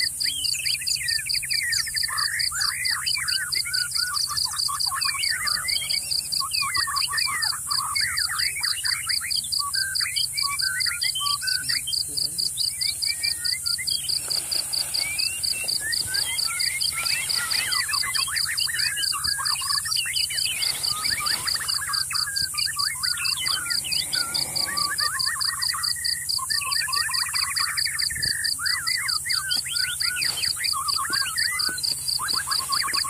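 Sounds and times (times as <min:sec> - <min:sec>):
birds chirping: 0:00.0 - 0:33.0
pulsing insect trill: 0:00.0 - 0:33.0.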